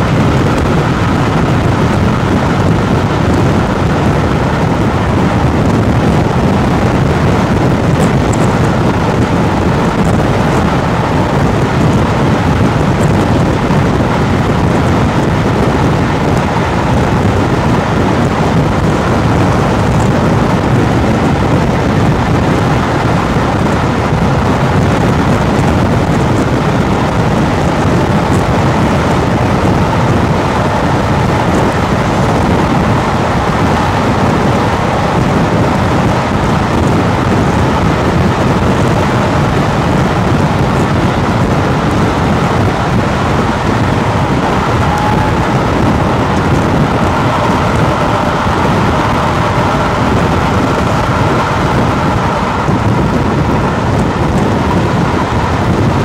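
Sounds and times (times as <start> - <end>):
rushing air: 0.0 - 56.0
train wheels roaring on rail: 0.0 - 56.0.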